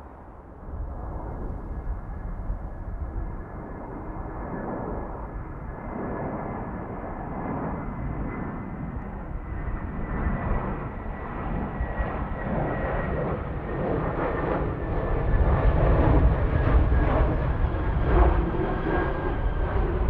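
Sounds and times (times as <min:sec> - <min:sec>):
jet engines with high whine: 0:00.0 - 0:20.0.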